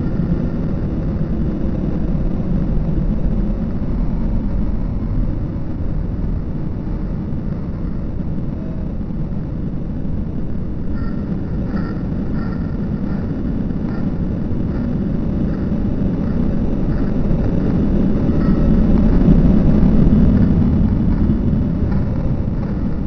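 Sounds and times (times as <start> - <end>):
city street traffic rumble: 0.0 - 23.0.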